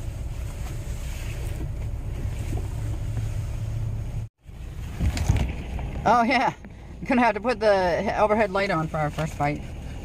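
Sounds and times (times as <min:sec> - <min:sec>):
van rumble from cabin: 0:00.0 - 0:10.0.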